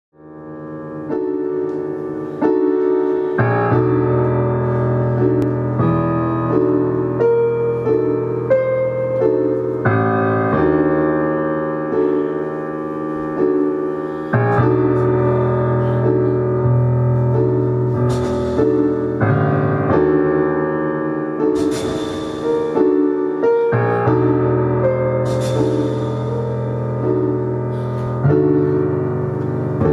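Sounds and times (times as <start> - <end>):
slow keyboard chords: 0.2 - 29.9.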